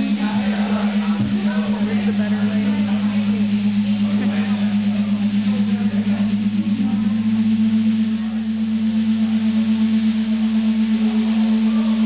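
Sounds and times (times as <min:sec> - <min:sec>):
electric bass low note drone: 0:00.0 - 0:12.0.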